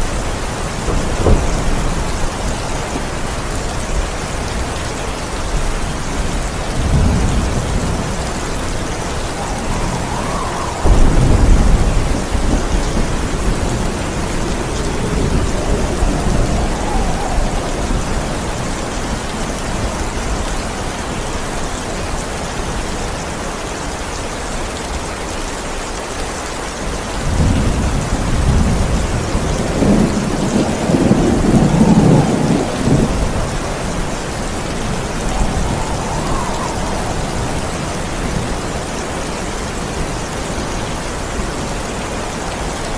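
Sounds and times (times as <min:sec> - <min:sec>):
rolling thunder: 0:00.0 - 0:22.0, 0:27.2 - 0:41.8
heavy rain: 0:00.0 - 0:42.9.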